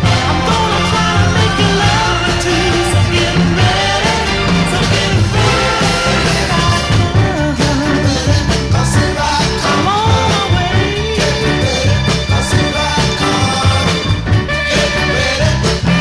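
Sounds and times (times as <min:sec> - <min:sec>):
upbeat song with steady beat: 0:00.0 - 0:16.0.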